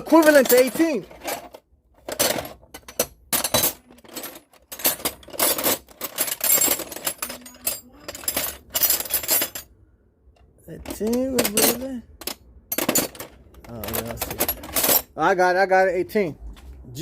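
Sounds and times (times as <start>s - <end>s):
metal tools clinking: 0.0s - 9.8s, 10.4s - 15.2s.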